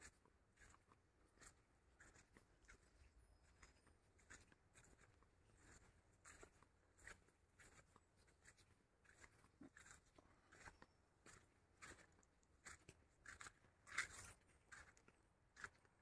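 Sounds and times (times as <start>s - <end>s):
footsteps crunching on sandy path: 0.0s - 16.0s.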